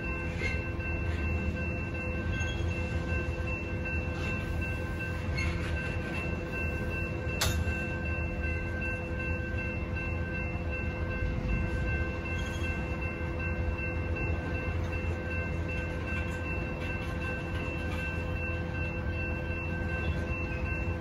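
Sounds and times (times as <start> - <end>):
crossing warning bell: 0.0 - 21.0
train wheels rumbling on rail: 0.0 - 21.0.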